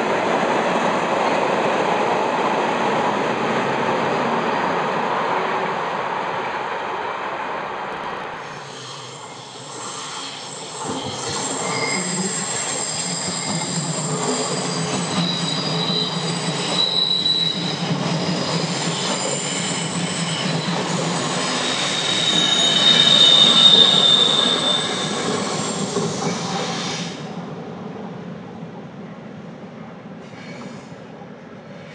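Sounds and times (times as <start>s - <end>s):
train wheels squealing on rails: 0.0s - 6.1s, 7.9s - 27.6s, 30.2s - 31.9s
low rolling rumble of train: 0.0s - 31.9s.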